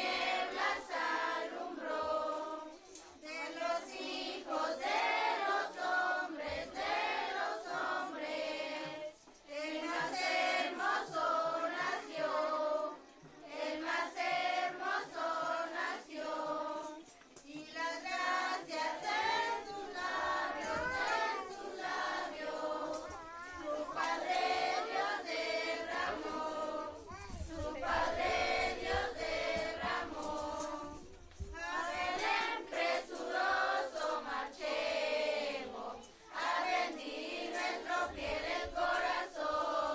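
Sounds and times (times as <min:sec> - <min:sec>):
children singing together: 0:00.0 - 0:39.9.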